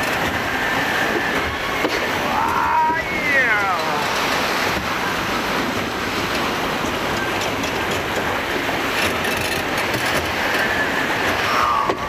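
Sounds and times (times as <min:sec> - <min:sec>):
ride machinery rumbling: 0:00.0 - 0:12.0.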